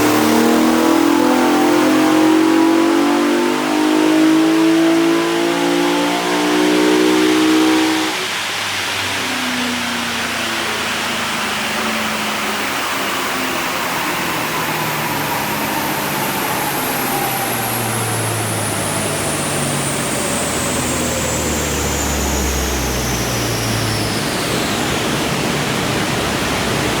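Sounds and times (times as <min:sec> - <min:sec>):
whine falling in pitch: 0:00.0 - 0:26.9
low engine drone: 0:00.0 - 0:27.0.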